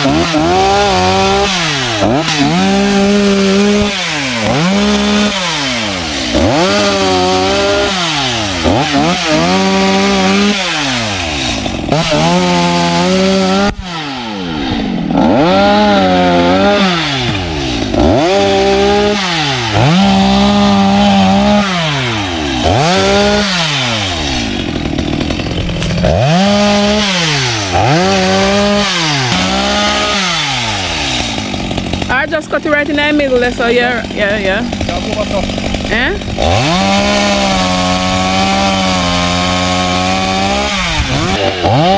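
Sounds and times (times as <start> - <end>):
chainsaw cutting through log: 0.0 - 41.9.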